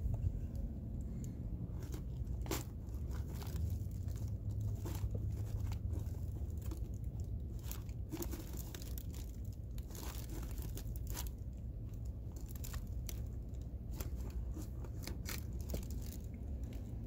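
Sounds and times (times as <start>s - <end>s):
low rumble: 0.0s - 17.0s
paper filter pleats crinkling: 1.6s - 17.0s.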